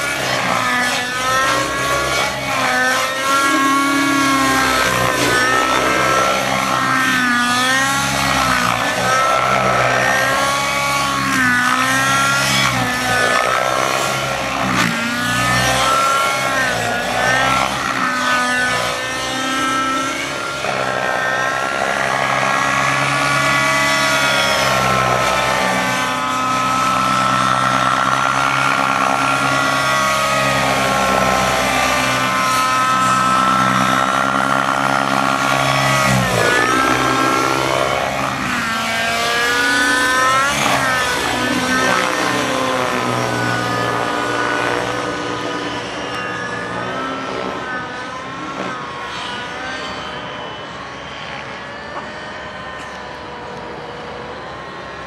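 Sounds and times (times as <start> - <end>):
model helicopter engine and rotors: 0.0 - 55.0.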